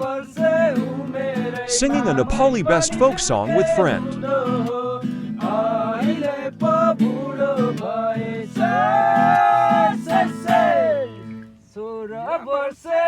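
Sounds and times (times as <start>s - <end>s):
guitar accompaniment: 0.0s - 11.6s
man singing folk song: 0.0s - 13.0s.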